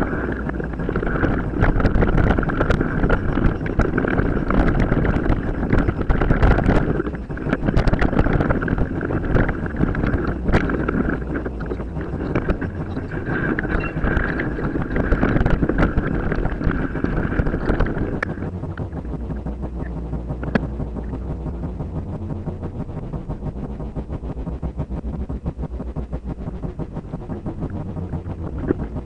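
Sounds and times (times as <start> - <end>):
steady high whine: 0.0 - 29.0
wind buffeting microphone: 0.0 - 29.0.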